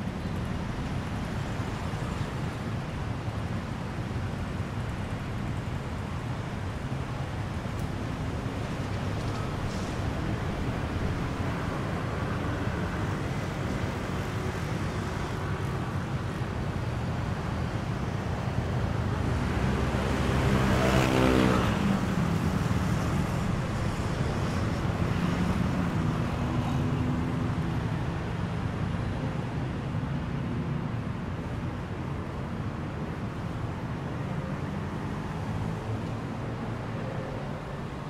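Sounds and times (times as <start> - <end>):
street traffic noise: 0.0 - 38.0.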